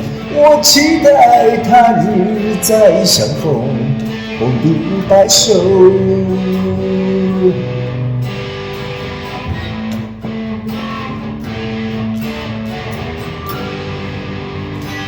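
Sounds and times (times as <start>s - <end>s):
guitar-led instrumental ballad: 0.0s - 15.0s.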